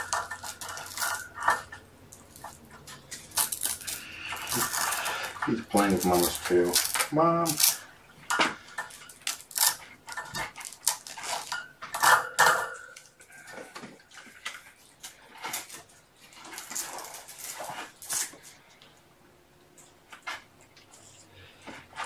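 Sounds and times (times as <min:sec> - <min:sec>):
hard objects clicking and rattling: 0:00.0 - 0:18.9.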